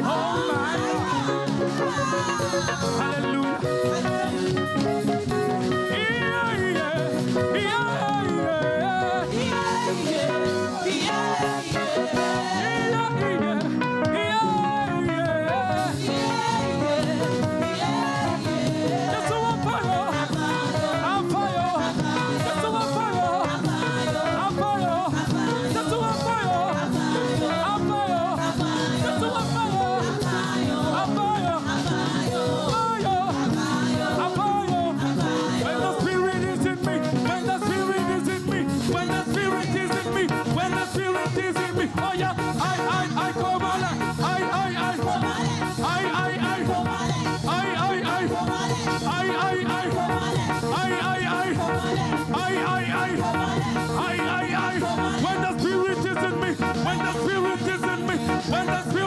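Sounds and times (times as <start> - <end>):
choir and band performing: 0.0 - 59.0.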